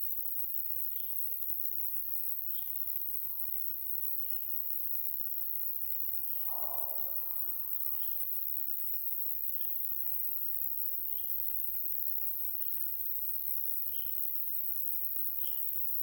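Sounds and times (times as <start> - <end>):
short insect call: 0.2 - 16.0
insects buzzing: 0.5 - 16.0.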